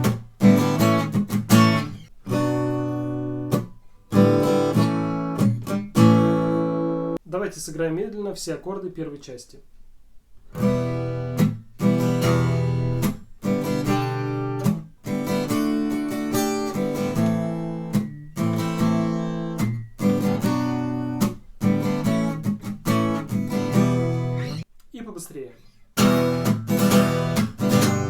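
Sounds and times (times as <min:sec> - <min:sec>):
acoustic guitar strumming: 0:00.0 - 0:07.2, 0:10.5 - 0:24.6, 0:25.6 - 0:28.0.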